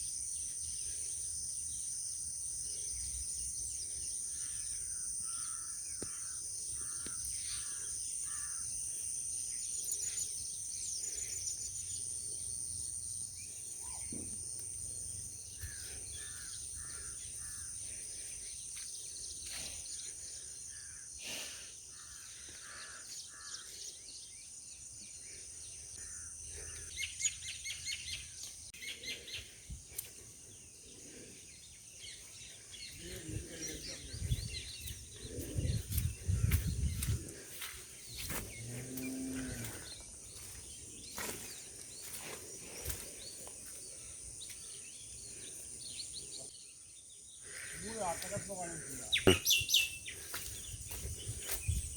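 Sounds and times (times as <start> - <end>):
birds calling and chirping: 0.0 - 51.9
insect drone: 0.0 - 51.9.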